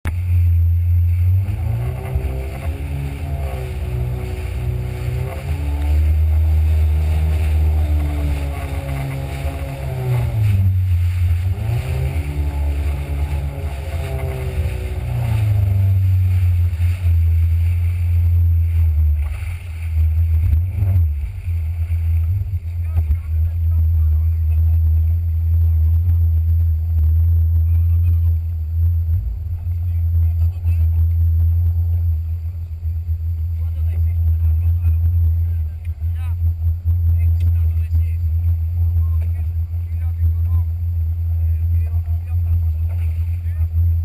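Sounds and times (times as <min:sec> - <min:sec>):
jet ski engine revving: 0:00.1 - 0:44.0.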